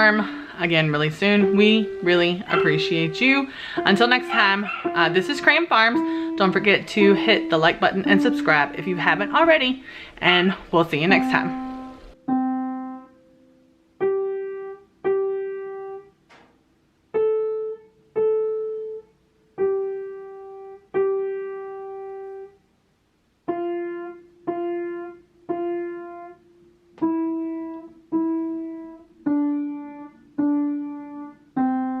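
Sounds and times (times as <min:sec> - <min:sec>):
slow piano melody: 0:00.0 - 0:09.8, 0:10.6 - 0:32.0.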